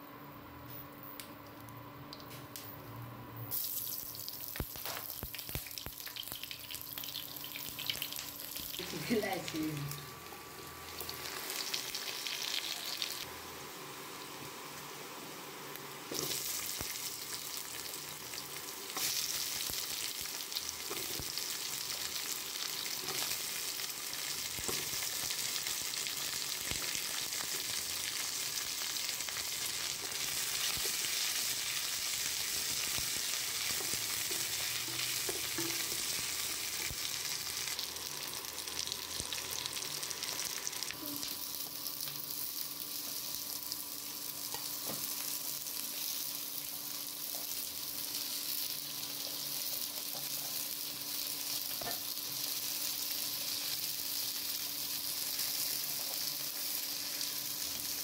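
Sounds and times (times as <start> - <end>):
vegetables sizzling in hot oil: 3.5 - 58.0.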